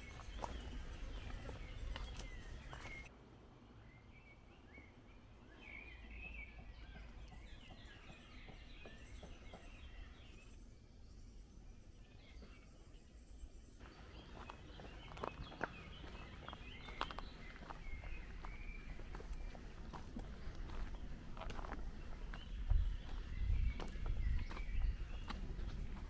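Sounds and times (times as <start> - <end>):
small birds chirping: 0.0 - 3.1, 3.8 - 26.0.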